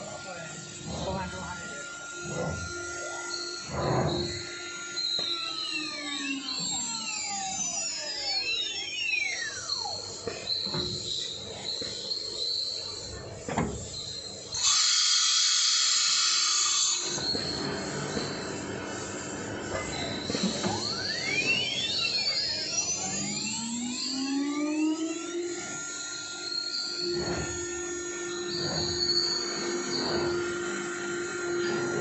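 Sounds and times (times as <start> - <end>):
machine motor whines: 0.0 - 32.0.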